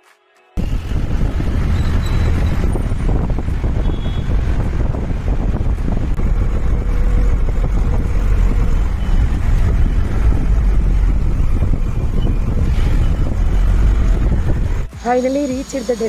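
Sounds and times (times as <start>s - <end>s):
vehicle rumbling on road: 0.6s - 16.0s.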